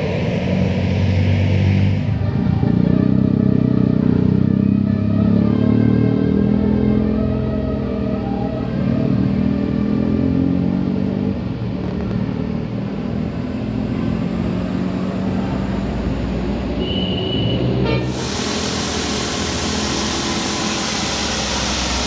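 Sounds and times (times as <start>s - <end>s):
heavy vehicle engine humming: 0.0s - 5.7s, 6.3s - 22.0s
road traffic noise: 0.0s - 22.0s.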